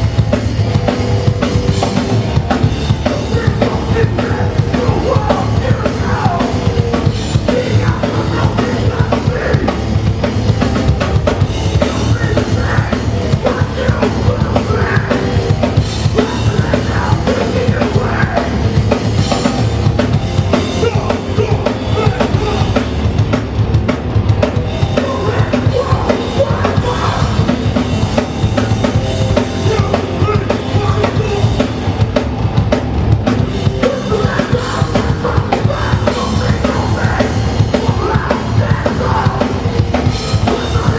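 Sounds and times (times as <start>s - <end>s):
punk band playing live: 0.0s - 40.9s.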